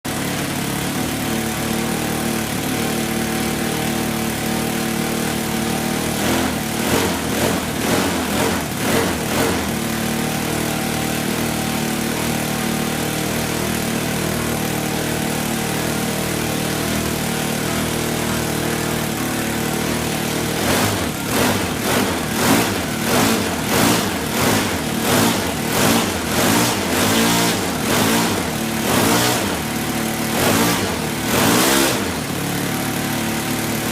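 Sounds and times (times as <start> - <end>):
model aircraft engine running: 0.1 - 33.9.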